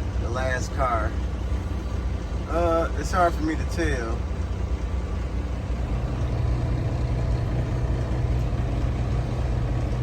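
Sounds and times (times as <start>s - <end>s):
truck diesel engine droning: 0.0s - 10.0s.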